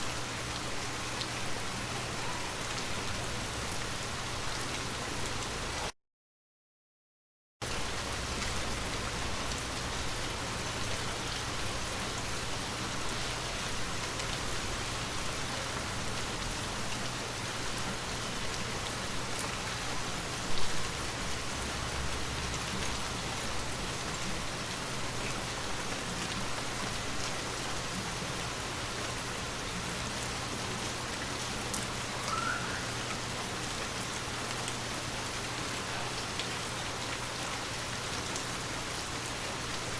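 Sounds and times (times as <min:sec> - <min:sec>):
rain pattering on surfaces: 0:00.0 - 0:05.9, 0:07.6 - 0:39.9.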